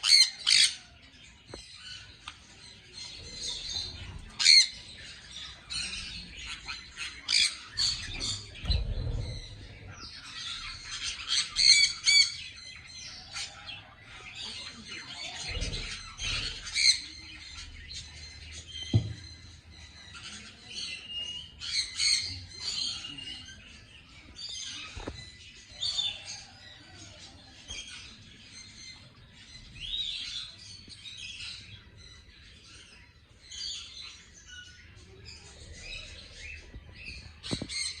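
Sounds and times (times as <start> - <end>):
many birds chirping: 0.0 - 38.0.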